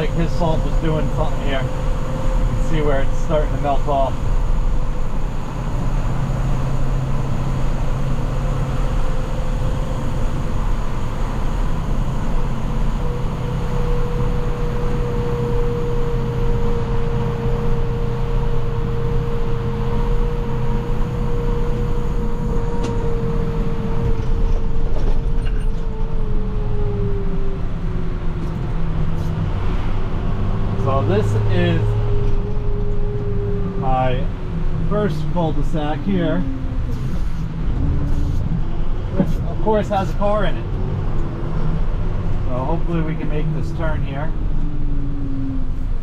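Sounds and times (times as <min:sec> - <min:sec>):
steady whine: 0:00.0 - 0:05.9, 0:08.8 - 0:29.3, 0:30.8 - 0:41.4
road rumble: 0:00.0 - 0:46.0
truck engine running: 0:00.0 - 0:46.0.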